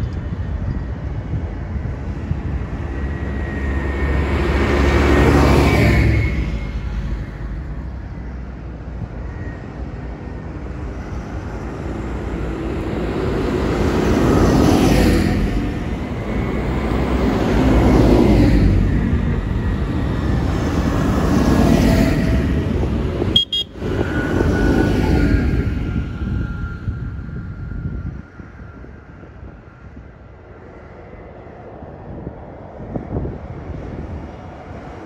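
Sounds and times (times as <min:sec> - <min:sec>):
tractor diesel engines passing: 0:00.0 - 0:35.0.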